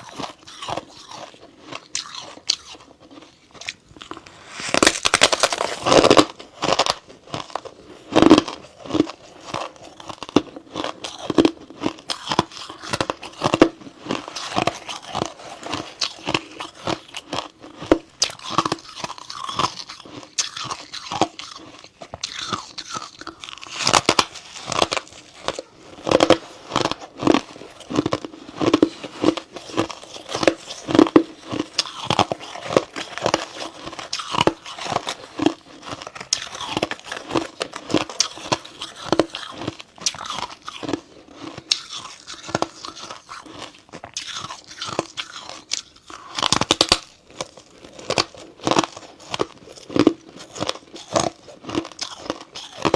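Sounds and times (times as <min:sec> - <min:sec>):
crunchy biting and chewing: 0:00.0 - 0:52.9.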